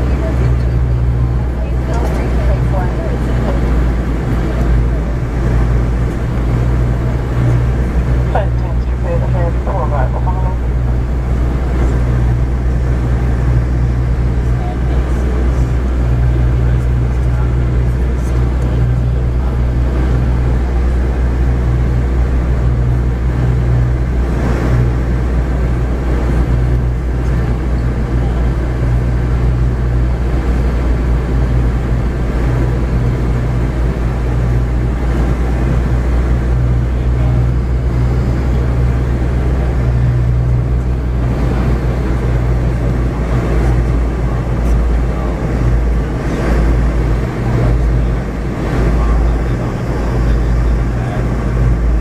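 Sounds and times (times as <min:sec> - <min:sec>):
air rushing along fuselage: 0:00.0 - 0:52.0
jet engine low hum: 0:00.0 - 0:52.0.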